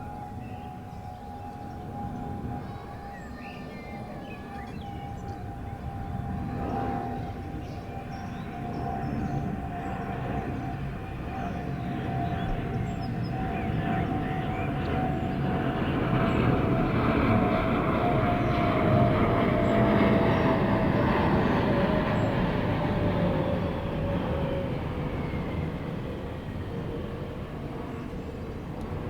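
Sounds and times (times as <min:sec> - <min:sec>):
jet airliner rumble: 0:00.0 - 0:29.0.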